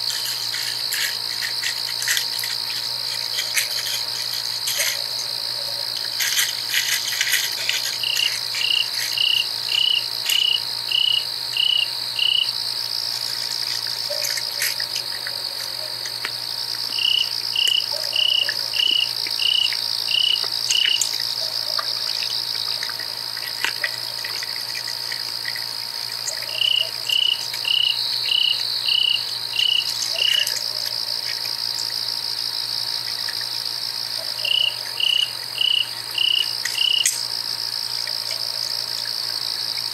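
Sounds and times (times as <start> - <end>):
faint steady hum: 0.0 - 39.9
insect chirps: 0.0 - 39.9
insect high-pitched trill: 0.0 - 39.9.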